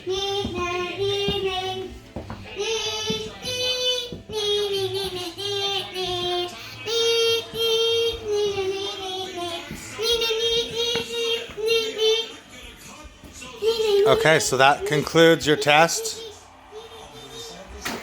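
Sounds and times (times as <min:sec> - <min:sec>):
child singing: 0:00.0 - 0:12.7, 0:13.4 - 0:17.6.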